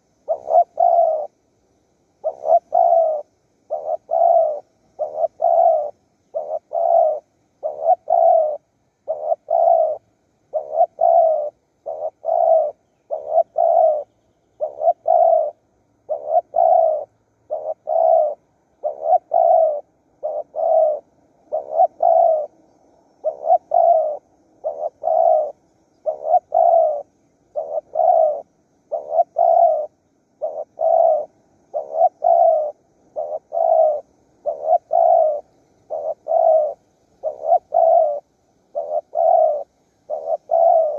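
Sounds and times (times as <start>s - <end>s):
dove cooing: 0.0s - 1.4s, 2.1s - 40.9s.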